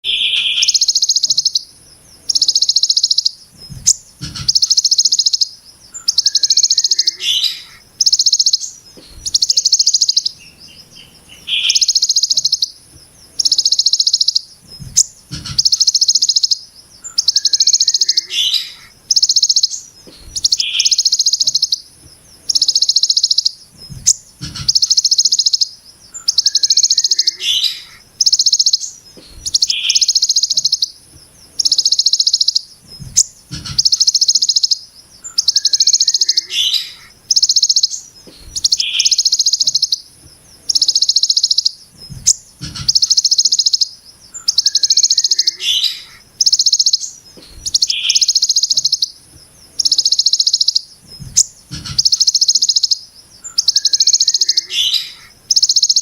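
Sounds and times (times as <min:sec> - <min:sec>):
bird singing harsh buzzing phrase: 0:00.0 - 0:56.0
steady high hiss: 0:00.1 - 0:56.0.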